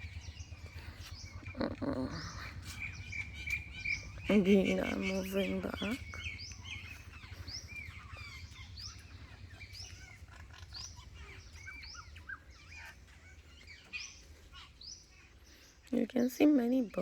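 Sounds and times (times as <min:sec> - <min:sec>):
babblers chirping: 0:00.0 - 0:17.0
low steady hum: 0:00.0 - 0:17.0.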